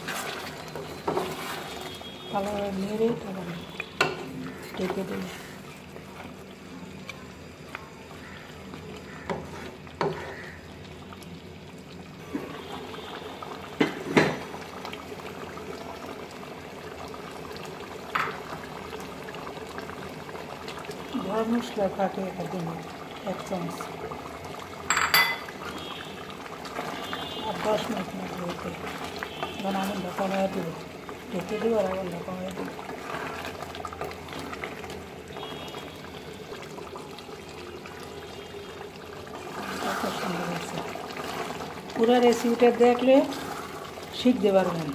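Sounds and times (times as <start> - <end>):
gravy bubbling in a pot: 0.0 - 44.9.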